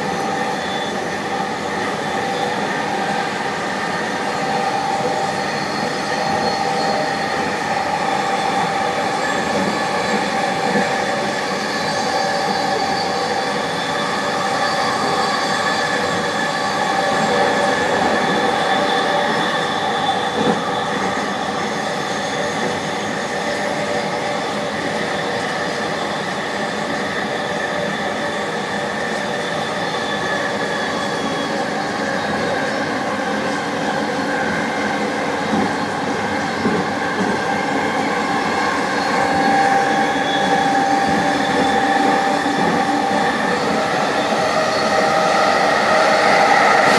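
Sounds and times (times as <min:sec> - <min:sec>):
train running with rumble: 0:00.0 - 0:46.9.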